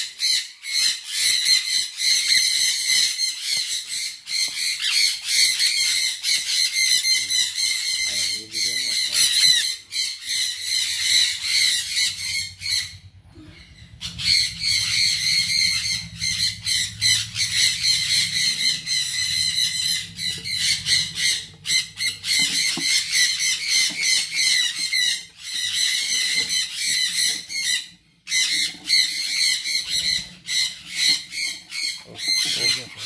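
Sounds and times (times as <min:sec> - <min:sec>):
parrots squawking: 0:00.0 - 0:33.0.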